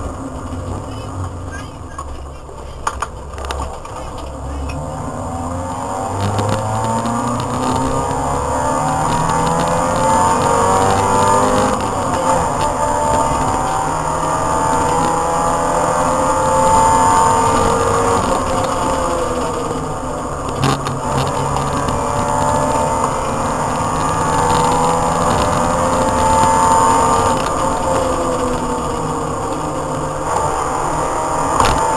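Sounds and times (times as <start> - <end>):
car engine accelerating: 0.0 - 31.9
road and tyre noise: 0.0 - 31.9.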